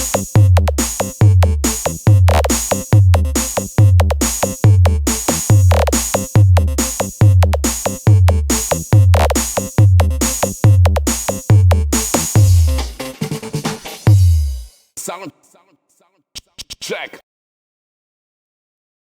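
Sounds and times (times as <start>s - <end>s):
electronic dance music: 0.0s - 15.6s.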